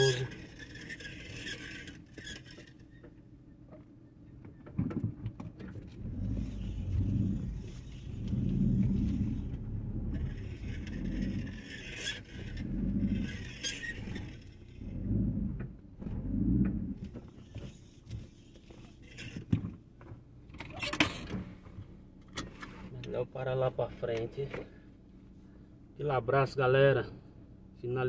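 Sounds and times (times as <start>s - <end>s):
car engine rumble: 0.0s - 28.0s.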